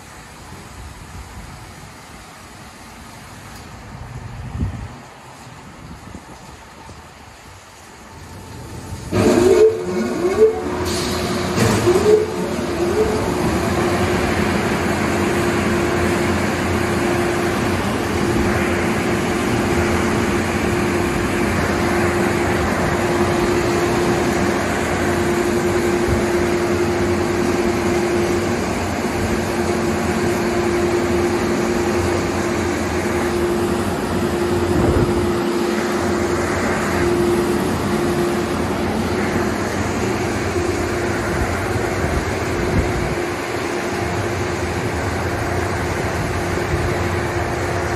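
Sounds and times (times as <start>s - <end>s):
dryer blowers rushing air: 0.0s - 47.9s
steady blower hum: 0.0s - 47.9s.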